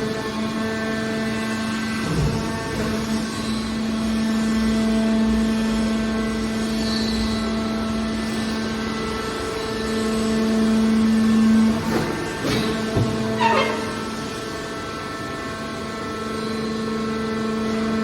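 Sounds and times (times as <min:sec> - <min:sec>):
hydraulic power unit drone: 0:00.0 - 0:18.0.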